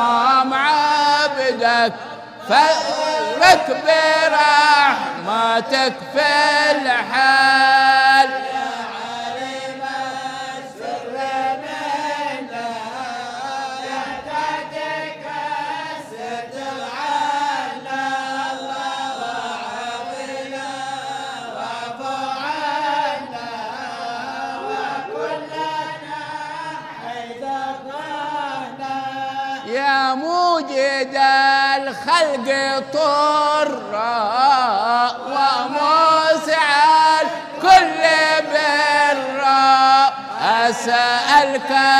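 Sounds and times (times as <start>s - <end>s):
men chanting in unison: 0.0s - 41.9s.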